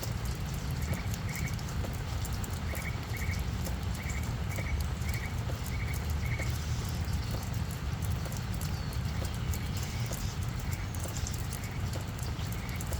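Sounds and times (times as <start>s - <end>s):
raindrops pattering: 0.0s - 12.9s.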